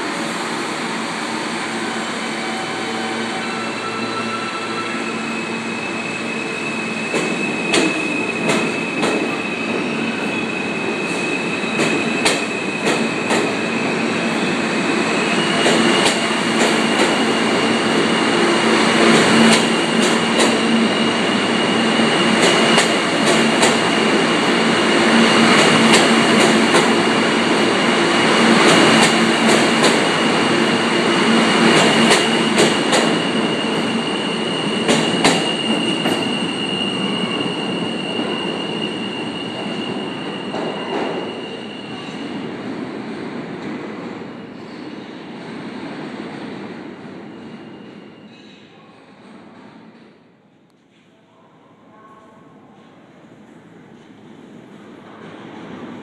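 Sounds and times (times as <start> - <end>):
train wheels rumbling on rail: 0.0 - 47.7.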